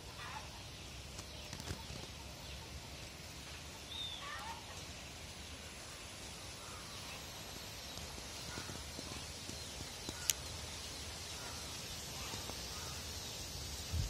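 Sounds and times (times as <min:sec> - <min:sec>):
steady faint hiss: 0:00.0 - 0:14.0.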